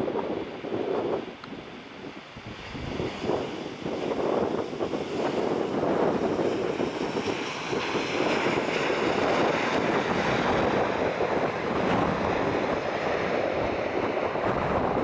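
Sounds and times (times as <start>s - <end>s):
loud jet engine roar: 0.0s - 15.0s.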